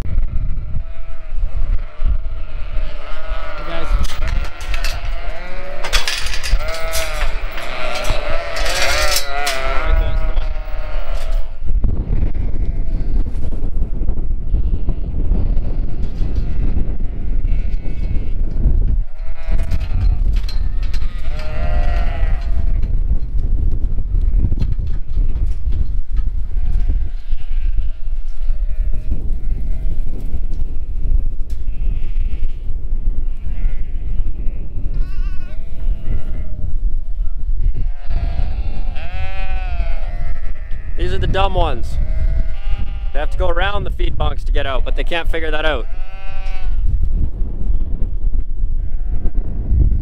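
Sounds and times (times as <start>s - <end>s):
sheep and lambs bleating: 0.0s - 13.3s, 14.6s - 22.9s, 26.5s - 30.0s, 31.6s - 36.6s, 37.6s - 43.9s, 44.6s - 46.8s, 48.8s - 50.0s
wind rumble on microphone: 0.0s - 50.0s.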